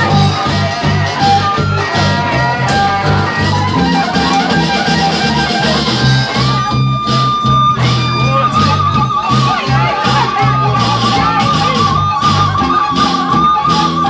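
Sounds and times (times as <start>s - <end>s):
bass guitar: 0.0s - 14.0s
drums: 0.0s - 14.0s
electric guitar lead: 0.0s - 14.0s.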